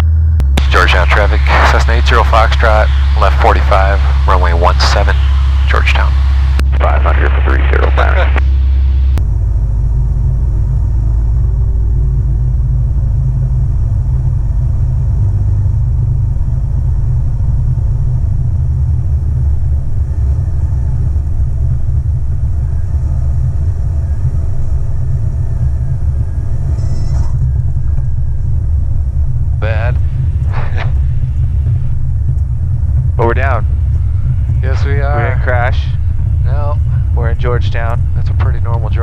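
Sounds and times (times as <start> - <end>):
aircraft engine and propeller droning: 0.0 - 39.0.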